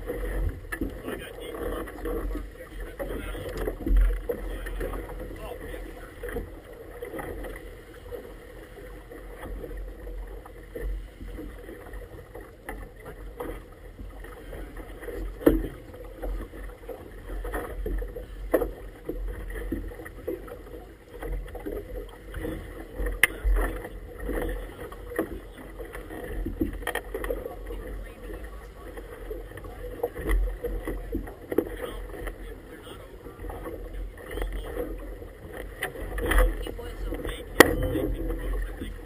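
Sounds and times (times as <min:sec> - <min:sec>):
water splashing against boat hull: 0:00.0 - 0:39.0.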